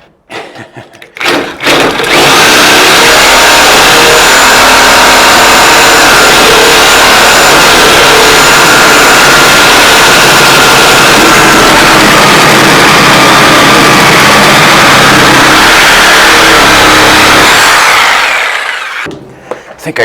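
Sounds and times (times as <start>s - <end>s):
reciprocating saw cutting metal: 1.3s - 19.1s.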